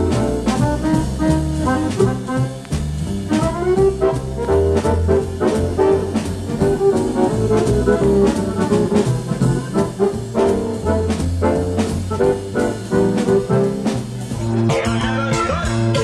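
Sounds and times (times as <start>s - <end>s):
jazz dance band music: 0.0s - 16.0s.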